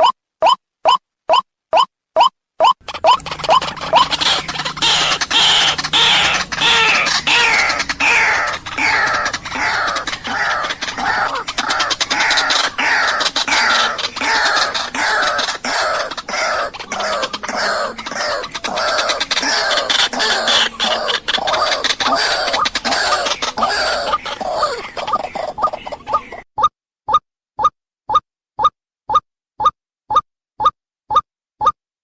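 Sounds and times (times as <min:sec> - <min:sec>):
bird calling harsh falling notes: 0:00.0 - 0:25.7.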